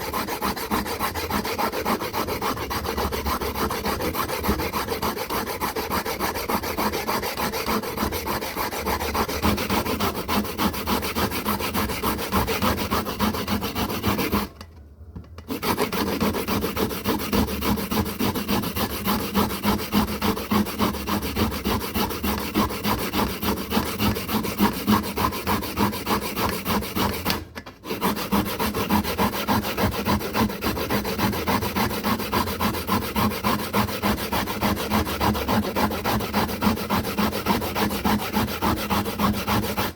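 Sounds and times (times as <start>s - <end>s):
hand tool scraping hard surface: 0.0s - 14.6s, 15.5s - 39.9s.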